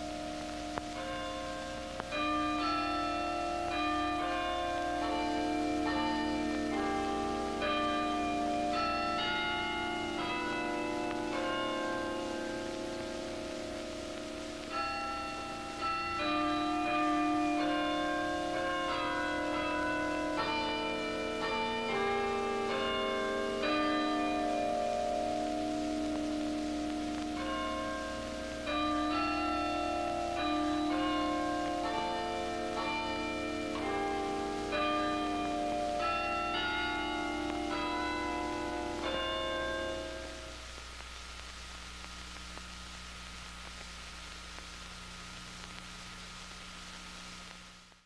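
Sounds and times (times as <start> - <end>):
bells ringing: 0.0 - 40.6.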